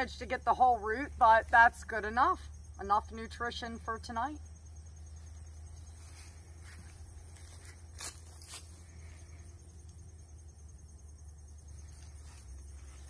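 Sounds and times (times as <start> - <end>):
faint insect trill: 0.0 - 13.0.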